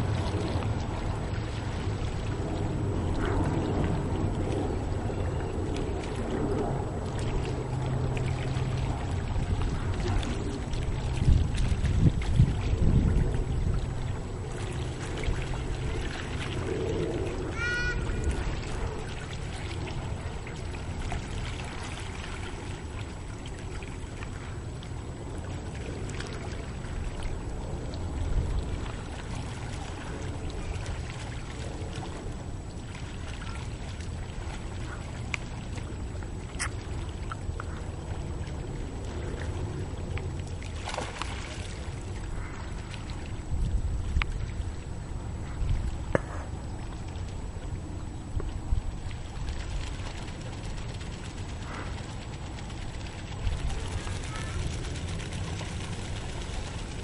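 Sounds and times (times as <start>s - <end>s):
low wind rumble: 0.0s - 57.0s
water lapping: 0.0s - 57.0s.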